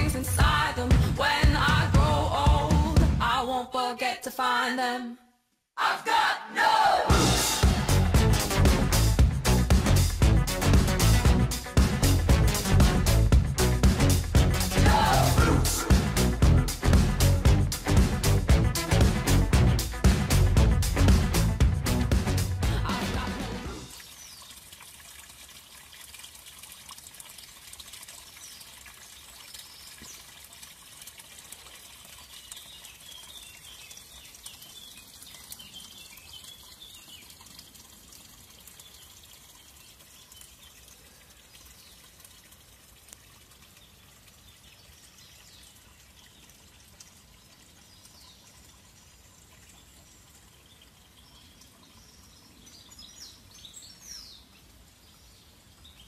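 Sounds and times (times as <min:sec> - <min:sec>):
water trickling into pool: 0:07.2 - 0:56.0.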